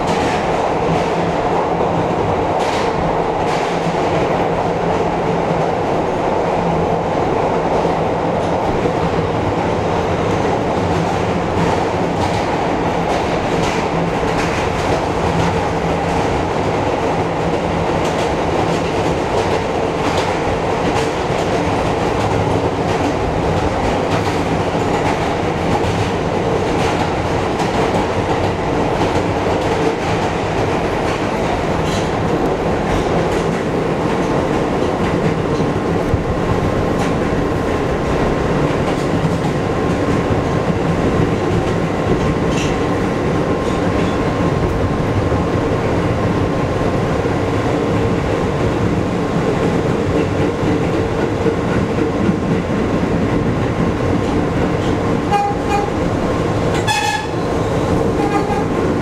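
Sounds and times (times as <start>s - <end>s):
steady train hum: 0.0s - 59.0s
subway train wheels rumbling: 0.0s - 59.0s.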